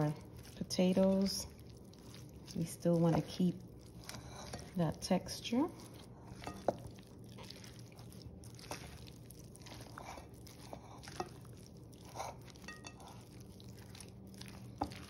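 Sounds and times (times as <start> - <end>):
soft squishing of potato salad: 0.0 - 15.0.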